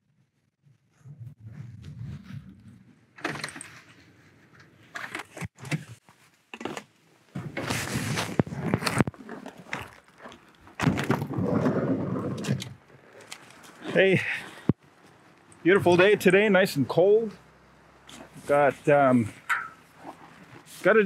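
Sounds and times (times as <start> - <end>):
rustling: 1.0 - 16.2, 18.0 - 21.0.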